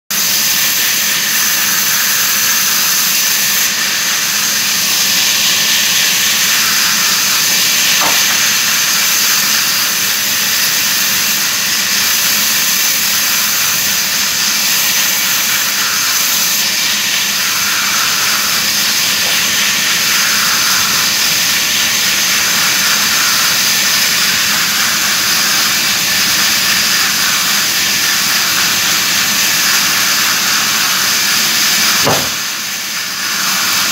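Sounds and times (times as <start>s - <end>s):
saw blade hissing through wood: 0.1s - 33.9s
electric motor hum: 0.2s - 33.9s.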